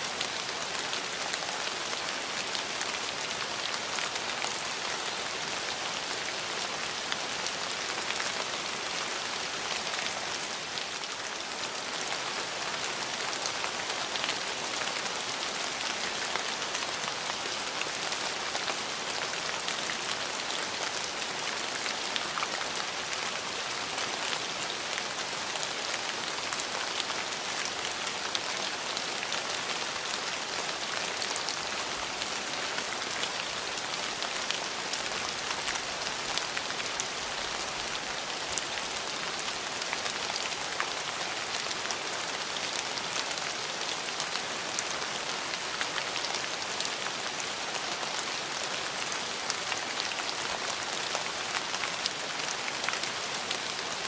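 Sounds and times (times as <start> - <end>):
rain on hard surfaces: 0.0 - 54.0.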